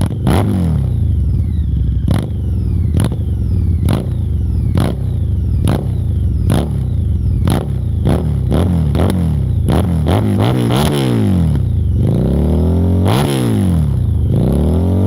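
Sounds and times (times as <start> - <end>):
motorcycle engine blipping: 0.0 - 15.0.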